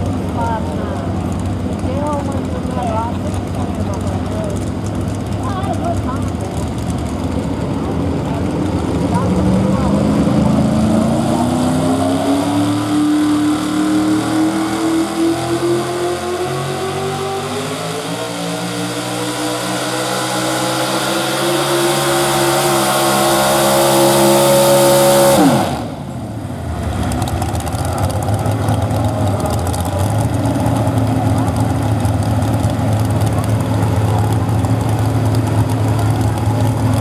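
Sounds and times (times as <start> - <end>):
engine low rumble: 0.0 - 37.0
truck engine at full load: 0.0 - 37.0.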